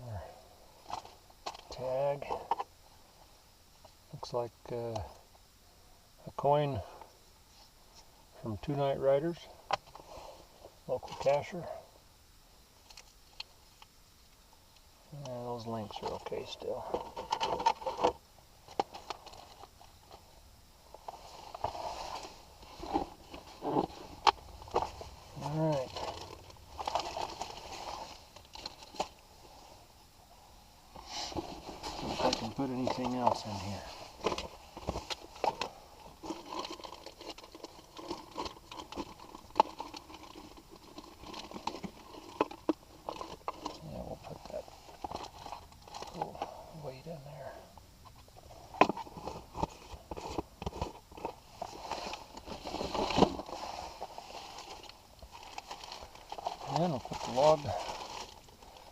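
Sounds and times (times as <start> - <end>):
rustling and crinkling: 0.2 - 4.4, 12.8 - 58.9.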